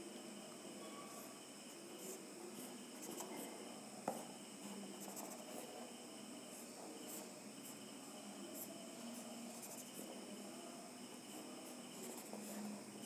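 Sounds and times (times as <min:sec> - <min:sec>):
high-pitched background whine: 0:00.0 - 0:13.0.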